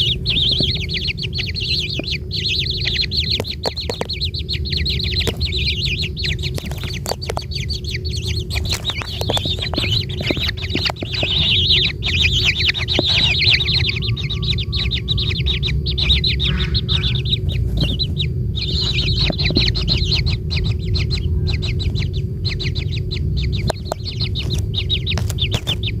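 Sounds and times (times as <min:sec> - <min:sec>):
kingfisher calling: 0:00.0 - 0:26.0
steady low rumble: 0:00.0 - 0:26.0.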